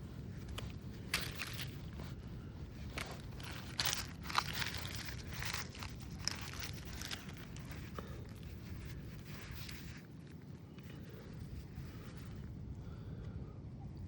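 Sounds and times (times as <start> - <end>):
crunching of dry ground cover: 0.0 - 12.6.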